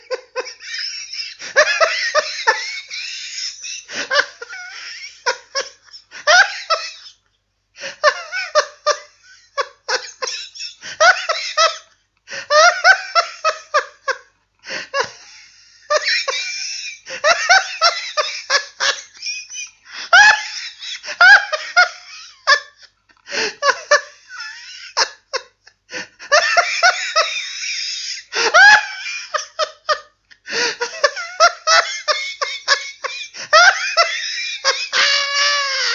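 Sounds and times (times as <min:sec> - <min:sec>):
person laughing: 0:00.0 - 0:07.2, 0:07.8 - 0:35.9.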